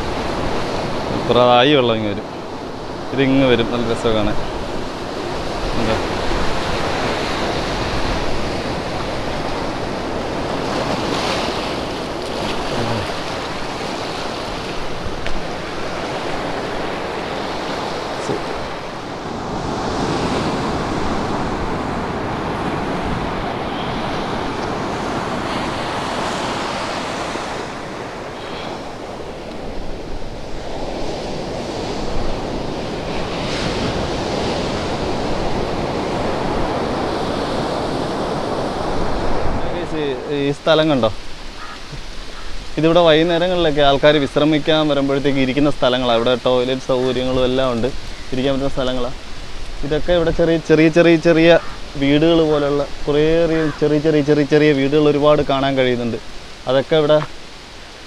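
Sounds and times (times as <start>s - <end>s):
surf breaking over rocks: 0.0s - 58.0s
wind rumbling on microphone: 0.0s - 58.0s.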